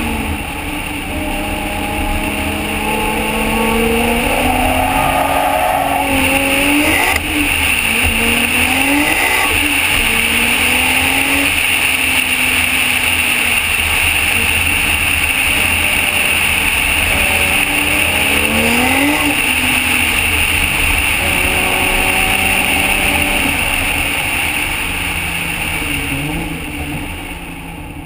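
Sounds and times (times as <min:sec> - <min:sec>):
car engine running at speed: 0:00.0 - 0:28.0.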